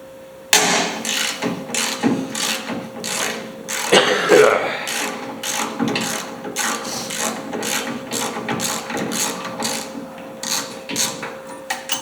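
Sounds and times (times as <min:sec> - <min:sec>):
ratchet wrench clicking: 0:00.6 - 0:04.1, 0:04.9 - 0:12.0.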